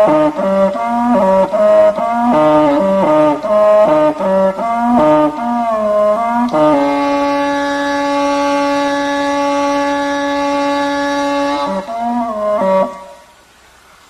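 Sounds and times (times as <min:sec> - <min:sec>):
wind instrument slow melody: 0:00.0 - 0:13.4.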